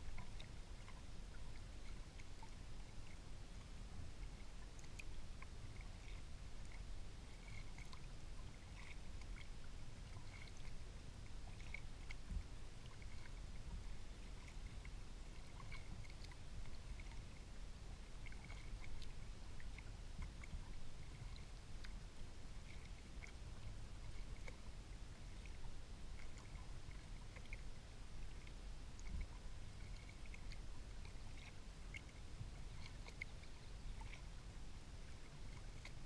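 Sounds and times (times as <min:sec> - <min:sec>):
low steady rumble: 0:00.0 - 0:36.0
water trickling and dripping: 0:00.0 - 0:36.0.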